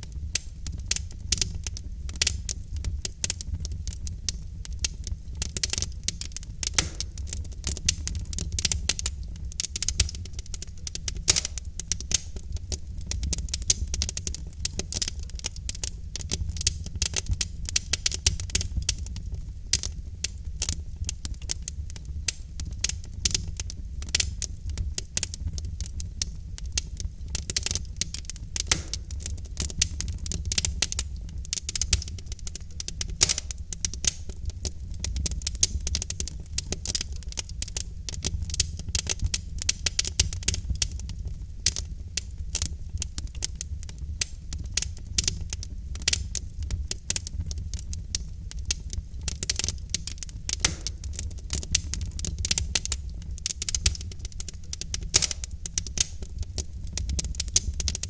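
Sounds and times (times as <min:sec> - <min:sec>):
logs crackling and popping: 0:00.0 - 0:58.0
low rumble of fire: 0:00.0 - 0:58.0.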